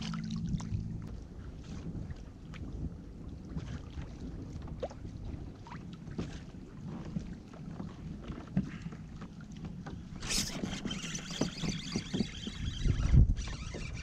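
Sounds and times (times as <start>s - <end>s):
water lapping around boat: 0.0s - 14.0s
wind rumbling on microphone: 0.0s - 14.0s.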